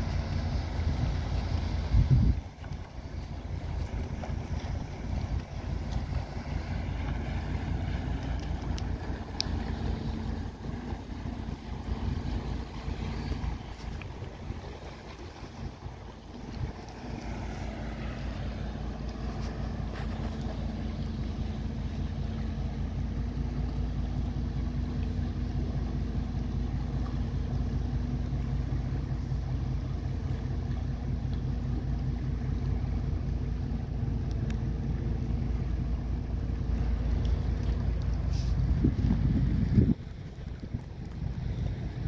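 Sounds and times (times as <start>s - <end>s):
diesel engine drone: 0.0s - 42.0s
wind rumbling on microphone: 0.0s - 42.0s.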